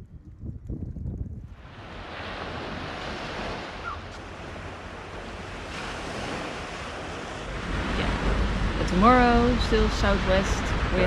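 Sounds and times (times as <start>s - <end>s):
wind rumble on microphone: 0.0s - 11.0s
wind and waves rushing: 0.8s - 11.0s.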